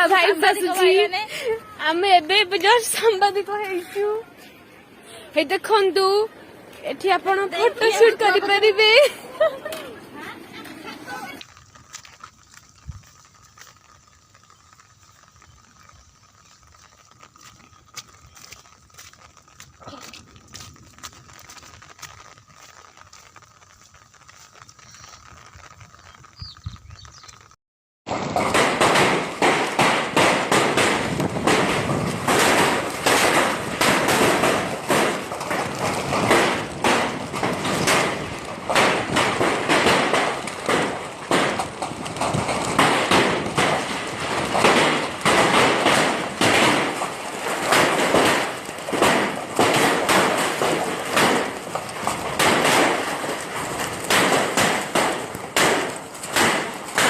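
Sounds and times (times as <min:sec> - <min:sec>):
hailstones pelting down: 0:00.0 - 0:57.0.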